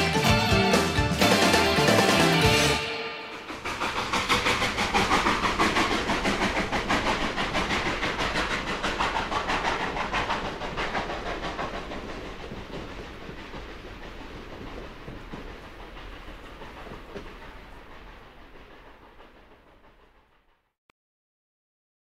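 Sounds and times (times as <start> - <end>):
steam train running: 0.0 - 20.6.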